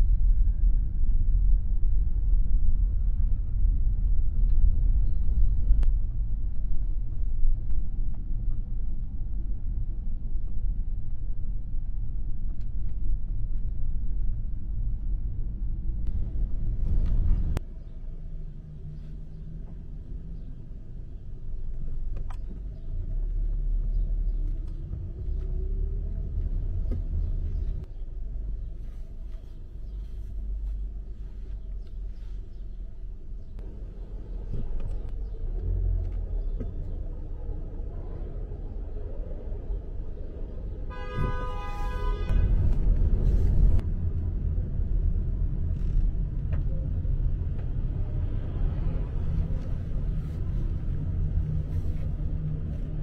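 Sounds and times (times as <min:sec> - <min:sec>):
road and wind rumble in car: 0:00.0 - 0:53.0.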